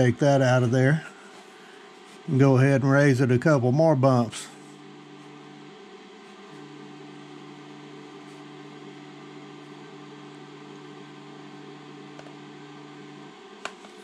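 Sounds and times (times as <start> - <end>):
stepper motor humming: 0.0 - 13.8.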